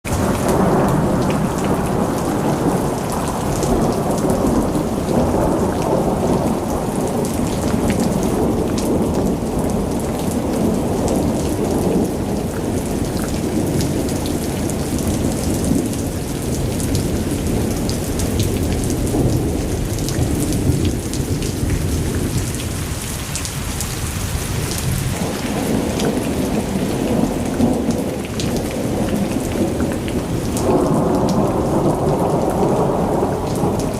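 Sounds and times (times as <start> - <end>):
heavy rain: 0.0 - 33.9
rushing floodwater: 0.0 - 33.9.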